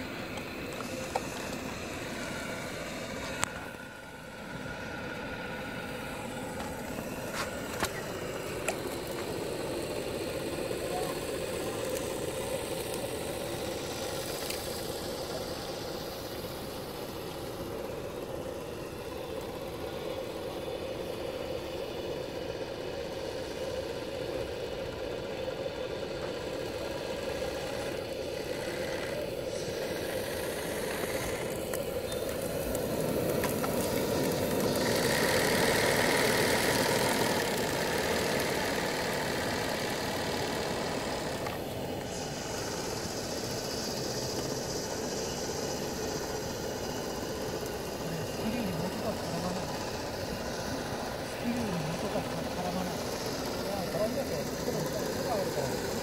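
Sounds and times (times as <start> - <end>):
model steam engine running: 0.0 - 56.0.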